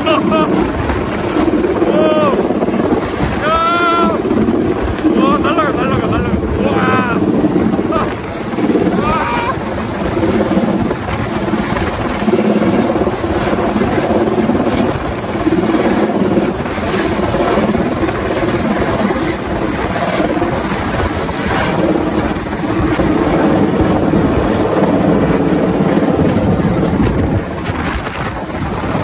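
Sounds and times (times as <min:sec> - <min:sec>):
helicopter rotor chop: 0:00.0 - 0:29.0.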